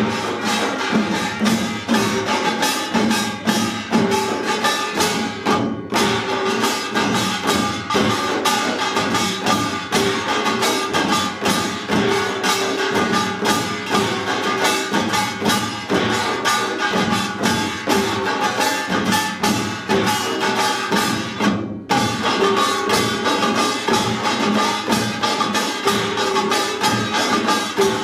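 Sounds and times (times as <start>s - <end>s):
drums in fast rhythm: 0.0s - 28.0s
ringing metal gongs: 0.0s - 28.0s.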